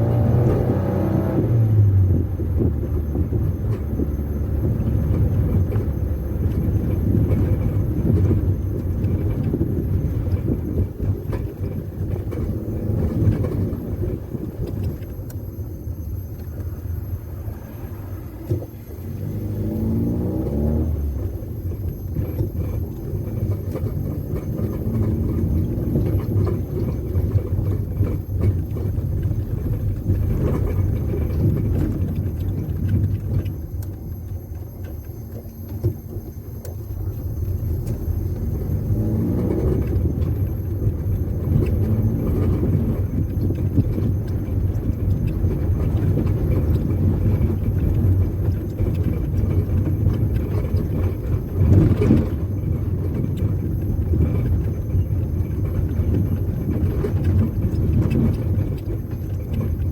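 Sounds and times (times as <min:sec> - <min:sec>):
car engine driving: 0:00.0 - 0:59.9.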